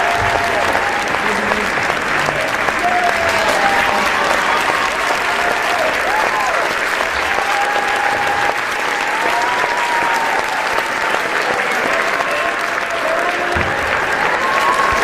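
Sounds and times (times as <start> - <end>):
audience applauding: 0.0 - 15.0
crowd cheering and calling: 0.0 - 15.0.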